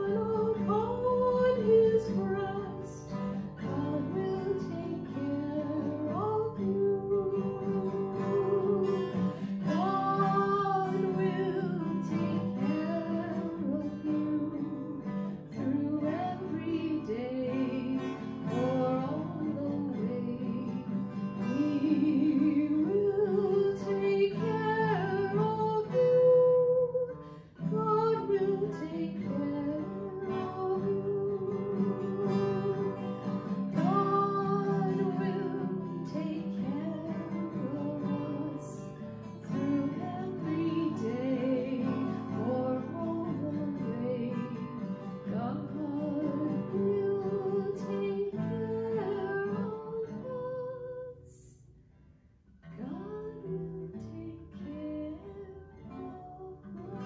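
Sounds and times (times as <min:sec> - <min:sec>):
acoustic guitar strumming: 0:00.0 - 0:51.1
woman singing: 0:00.0 - 0:51.7, 0:52.6 - 0:57.0.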